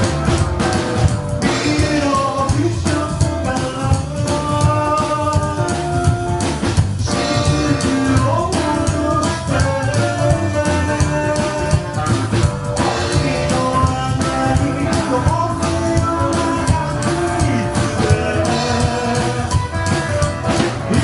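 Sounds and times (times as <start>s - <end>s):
live rockabilly band: 0.0s - 21.0s
person singing lead vocal: 1.4s - 6.4s, 7.0s - 12.2s, 12.8s - 20.0s, 20.8s - 21.0s.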